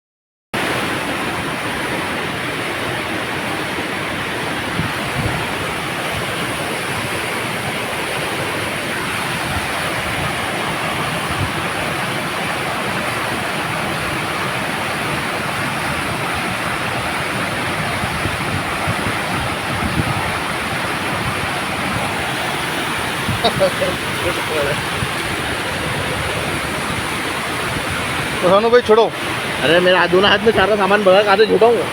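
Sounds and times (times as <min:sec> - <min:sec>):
flowing water rushing: 0:00.6 - 0:31.9.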